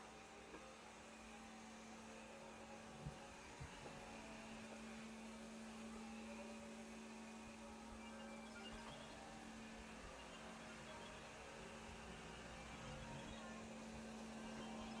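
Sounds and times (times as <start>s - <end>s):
steady low hum: 0.6s - 15.0s.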